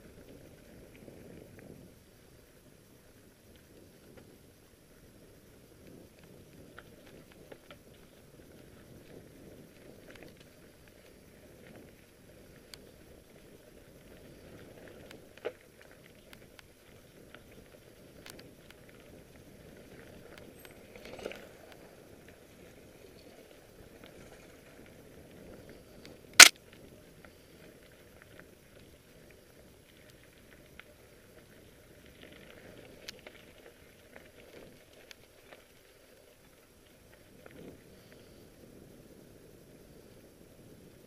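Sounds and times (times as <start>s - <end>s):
bike tyres rumbling on gravel: 0.0s - 41.0s.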